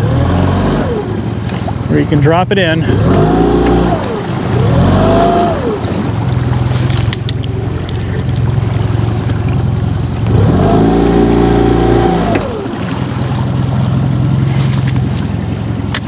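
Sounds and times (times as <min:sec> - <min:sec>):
boat motor idling and revving: 0:00.0 - 0:16.0.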